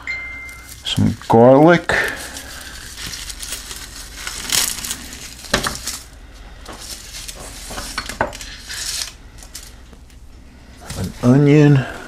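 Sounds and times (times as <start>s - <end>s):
papery rustle of garlic skins: 0.4s - 10.0s, 10.8s - 11.8s.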